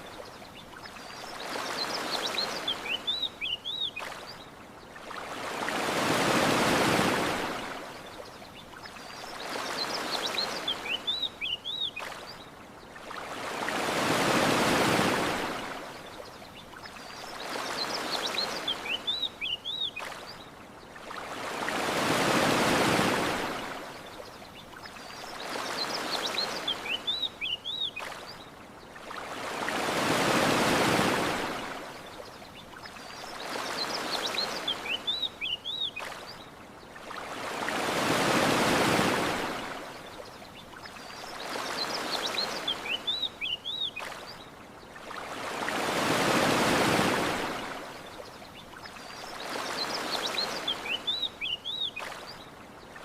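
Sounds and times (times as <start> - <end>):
ocean waves washing onto shore: 0.0 - 53.0.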